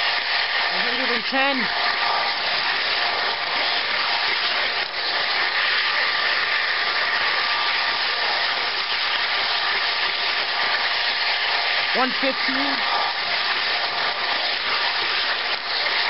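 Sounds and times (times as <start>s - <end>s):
model train wheels and motor whir: 0.0s - 16.0s.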